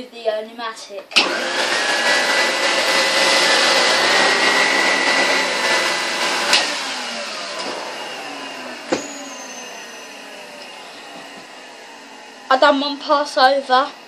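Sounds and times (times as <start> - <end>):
vacuum cleaner running: 1.1 - 14.0.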